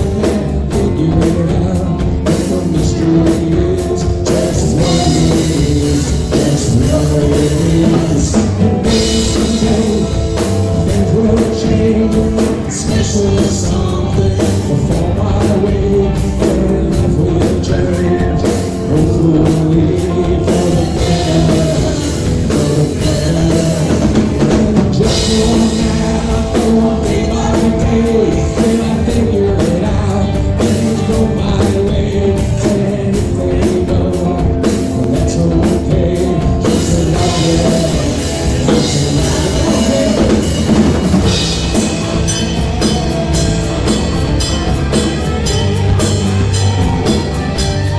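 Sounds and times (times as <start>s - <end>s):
drum kit playing: 0.0s - 47.9s
person singing: 0.0s - 47.9s
rock music: 0.0s - 47.9s.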